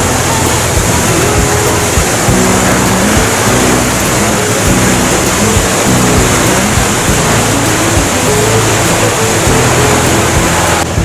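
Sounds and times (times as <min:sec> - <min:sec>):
music of held low notes: 0:00.0 - 0:11.0
waterfall rushing: 0:00.0 - 0:11.0.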